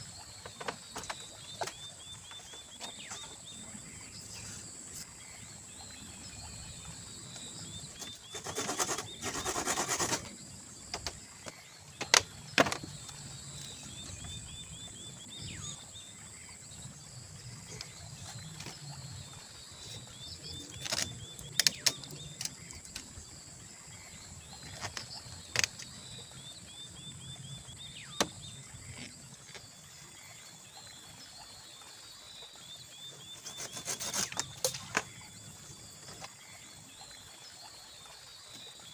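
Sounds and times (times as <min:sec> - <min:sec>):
insects buzzing: 0:00.0 - 0:31.5, 0:32.6 - 0:38.9.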